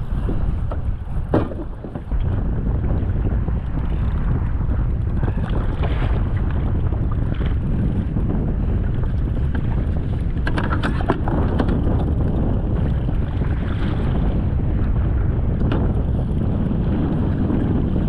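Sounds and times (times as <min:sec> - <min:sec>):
choppy sea: 0:00.0 - 0:18.0
wind buffeting microphone: 0:00.0 - 0:18.0.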